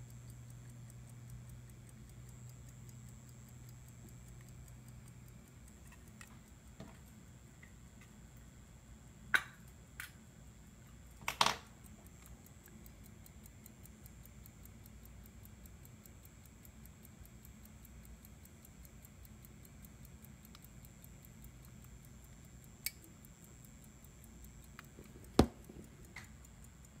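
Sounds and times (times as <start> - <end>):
pocket watch ticking: 0.0 - 27.0.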